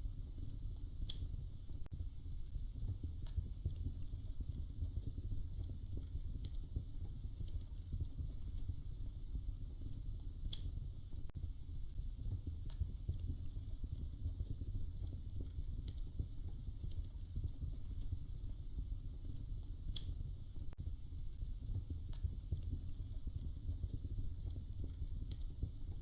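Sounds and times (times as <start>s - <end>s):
fire popping: 0.0s - 26.0s
wood fire crackling: 0.0s - 26.0s.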